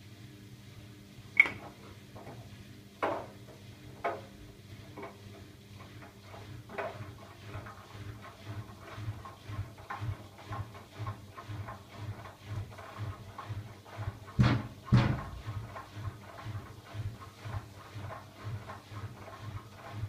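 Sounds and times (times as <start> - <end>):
laundry tumbling in washing machine: 1.5 - 20.0.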